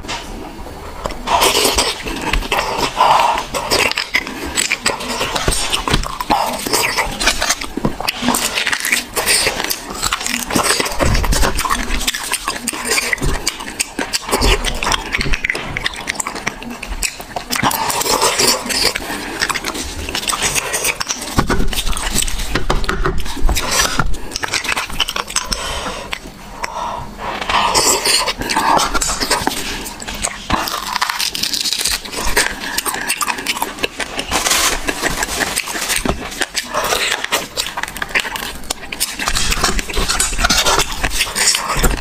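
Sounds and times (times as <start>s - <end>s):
wet chewing and sucking: 0.0s - 42.0s.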